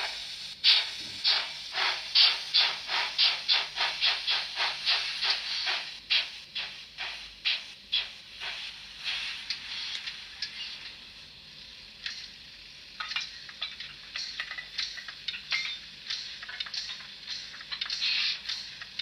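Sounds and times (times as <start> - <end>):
thin steam hiss from speaker: 0.0 - 19.0.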